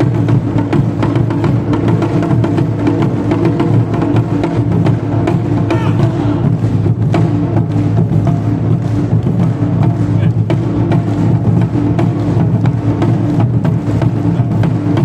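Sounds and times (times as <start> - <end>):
taiko drums ensemble: 0.0 - 15.0.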